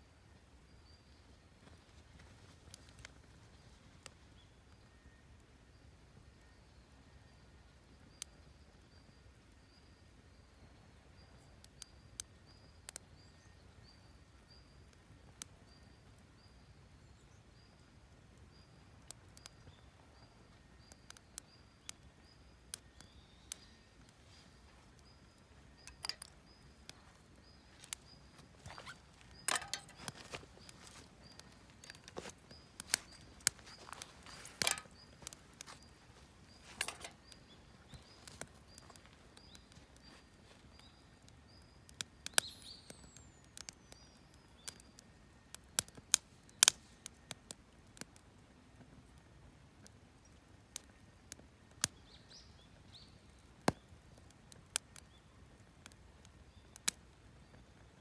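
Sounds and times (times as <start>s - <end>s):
campfire crackling and popping: 1.5s - 4.8s, 7.9s - 58.0s.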